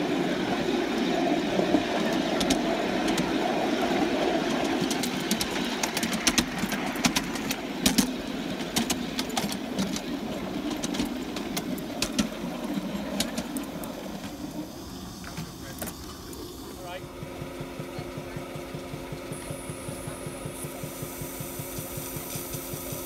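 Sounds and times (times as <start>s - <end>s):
steam locomotive exhaust and wheels: 0.0s - 23.0s.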